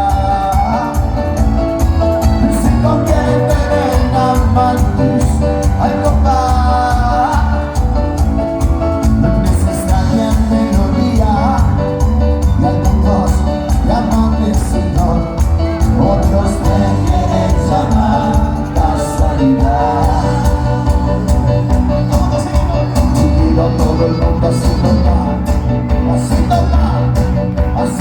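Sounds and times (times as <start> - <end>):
band playing latin dance music: 0.0 - 28.0.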